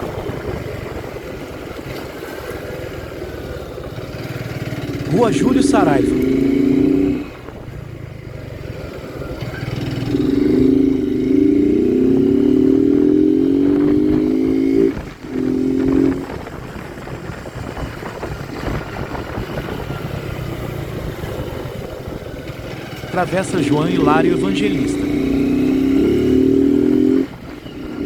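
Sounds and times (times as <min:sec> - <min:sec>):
road and wind rumble: 0:00.0 - 0:28.0
motorcycle engine accelerating: 0:03.1 - 0:28.0.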